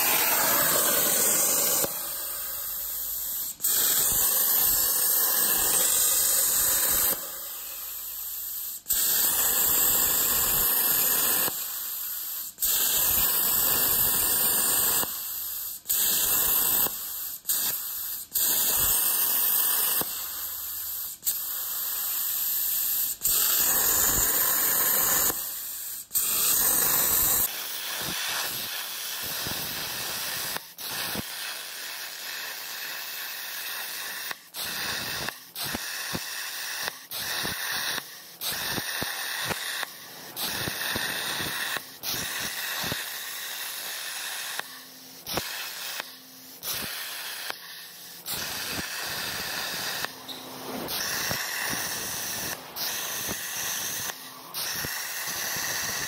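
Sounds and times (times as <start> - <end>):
plasma cutter arc hissing: 0.0 - 56.0.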